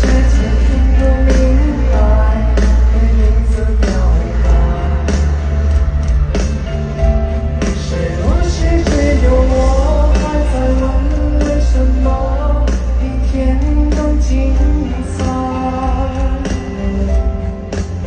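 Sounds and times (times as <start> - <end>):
live pop-rock band: 0.0 - 18.0
person singing: 0.0 - 18.0.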